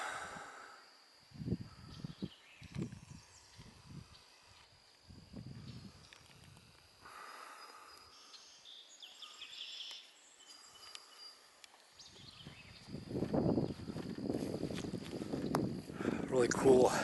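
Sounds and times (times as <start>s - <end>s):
thin high insect-like tone: 0.5s - 15.9s.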